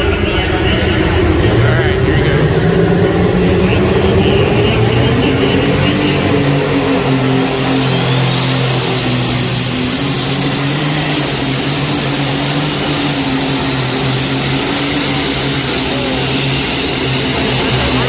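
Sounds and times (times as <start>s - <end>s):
thin high whine: 0.0s - 18.0s
tractor engine running loud: 0.0s - 18.0s.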